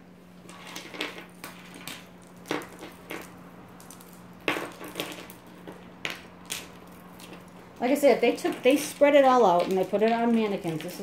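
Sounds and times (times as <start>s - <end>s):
faint steady hum: 0.0s - 11.0s
jewelry clinking: 0.4s - 11.0s.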